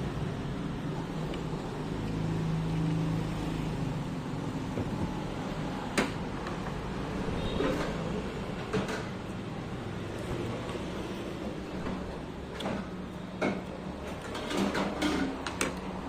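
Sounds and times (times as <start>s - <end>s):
background traffic noise: 0.0s - 16.0s.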